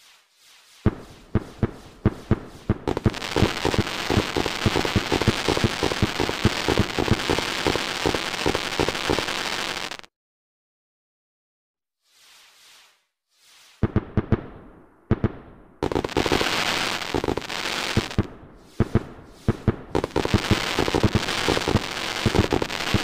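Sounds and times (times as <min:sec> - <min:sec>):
fireworks crackling: 0:00.0 - 0:10.1, 0:12.2 - 0:23.0
fireworks bangs: 0:00.8 - 0:10.1, 0:13.8 - 0:23.0.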